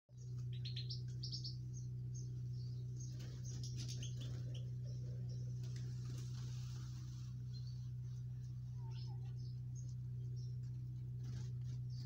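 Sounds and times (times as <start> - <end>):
finches twittering: 0.1 - 12.0
steady low hum: 0.1 - 12.0.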